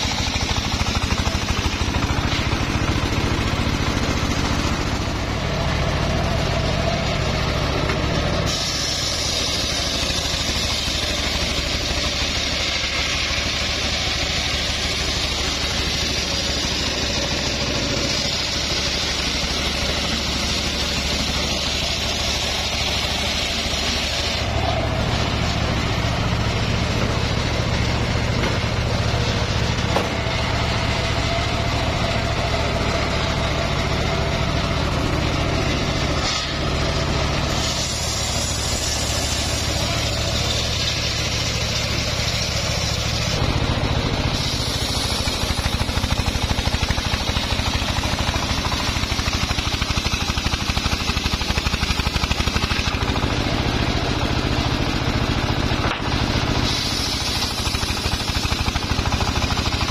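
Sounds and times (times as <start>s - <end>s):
circular saw blade whining through log: 0.0s - 59.9s
saw running free: 0.0s - 59.9s.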